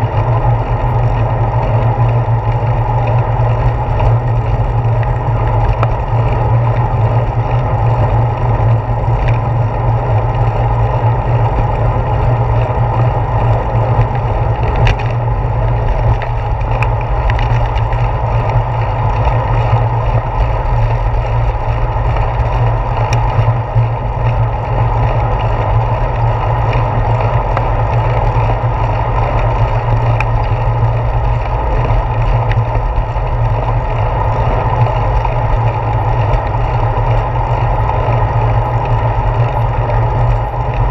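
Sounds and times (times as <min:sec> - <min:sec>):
tyre and road rumble: 0:00.0 - 0:40.9
wind rushing over camera: 0:00.0 - 0:40.9.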